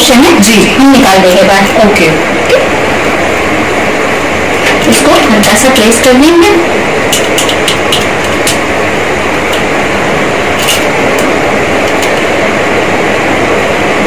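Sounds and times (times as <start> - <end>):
loud rushing noise: 1.8 - 14.0.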